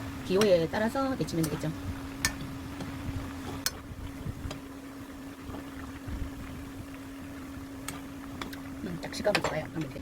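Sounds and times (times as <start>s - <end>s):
constant low hum: 0.0s - 10.0s
water boiling and bubbling: 0.0s - 10.0s.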